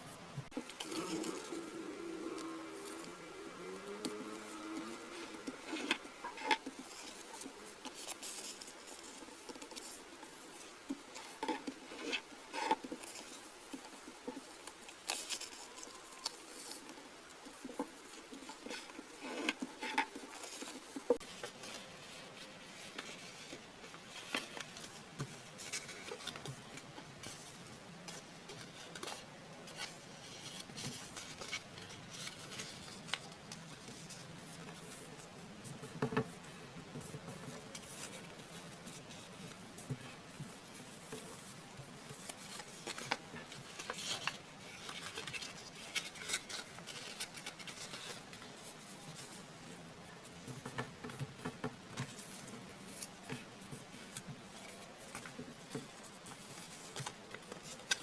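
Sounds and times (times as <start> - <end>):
paper folding and rustling: 0.0 - 58.0.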